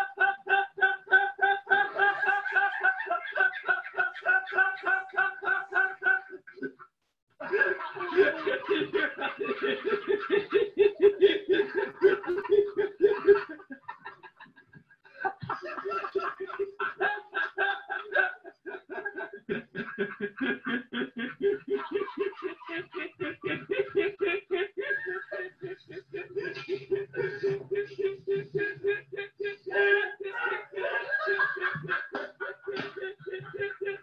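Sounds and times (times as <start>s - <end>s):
young man laughing: 0.0s - 6.8s, 7.4s - 34.0s.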